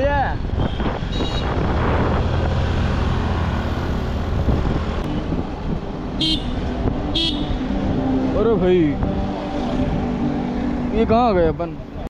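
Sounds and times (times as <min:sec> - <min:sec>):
wind buffeting microphone: 0:00.0 - 0:10.9
vehicle engine and road rumble: 0:00.0 - 0:12.0.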